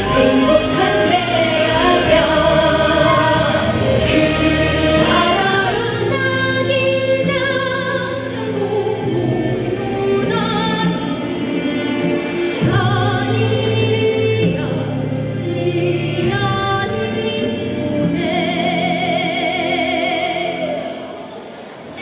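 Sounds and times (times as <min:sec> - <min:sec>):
woman singing into a microphone: 0:00.0 - 0:11.8, 0:12.5 - 0:21.4
violin: 0:00.0 - 0:22.0.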